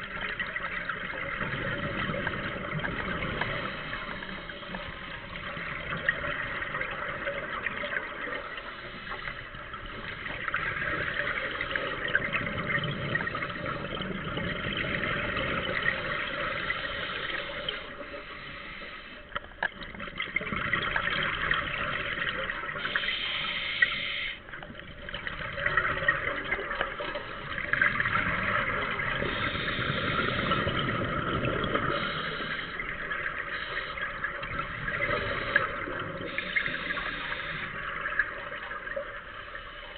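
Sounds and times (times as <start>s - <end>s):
regulator bubbles underwater: 0.0s - 39.9s.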